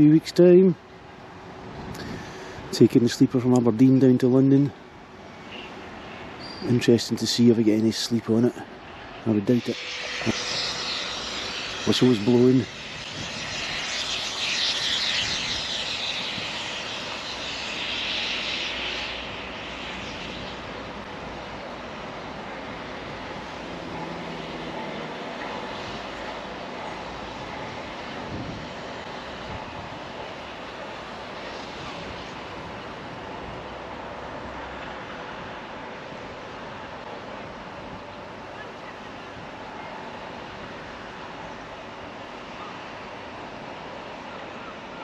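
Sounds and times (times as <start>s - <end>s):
steam locomotive venting steam: 0.0s - 45.0s.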